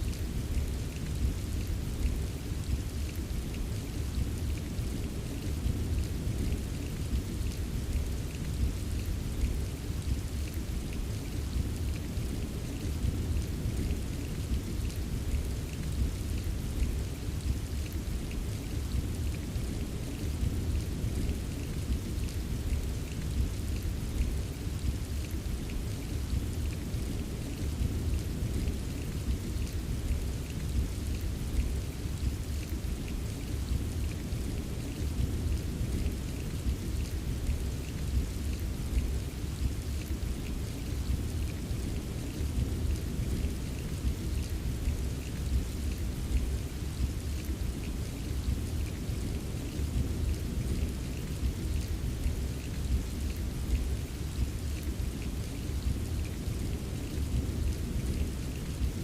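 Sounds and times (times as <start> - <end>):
rain low rumble: 0.0 - 59.0
raindrops ticking: 0.1 - 59.0.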